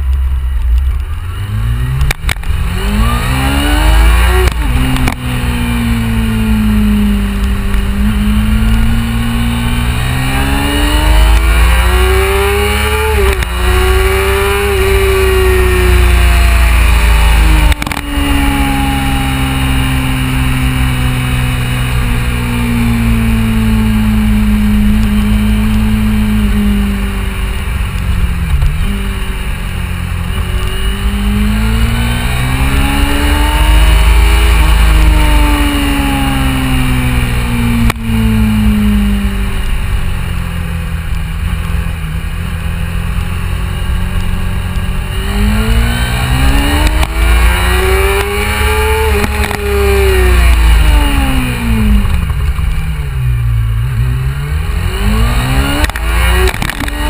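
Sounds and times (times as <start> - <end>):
low wind rumble: 0.0 - 57.0
motorcycle engine running: 0.0 - 57.0.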